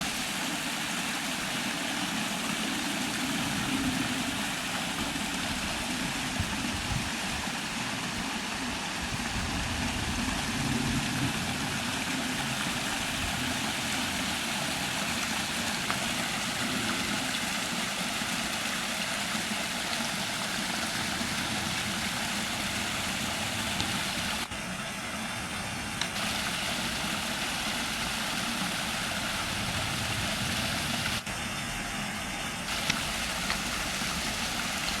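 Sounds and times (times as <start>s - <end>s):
waterfall rushing and splashing: 0.0s - 35.0s.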